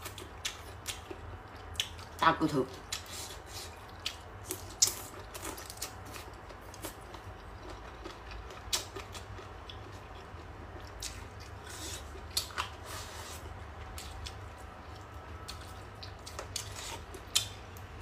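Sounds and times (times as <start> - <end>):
low steady hum: 0.0 - 18.0
wet chewing mouth sounds: 2.8 - 17.6.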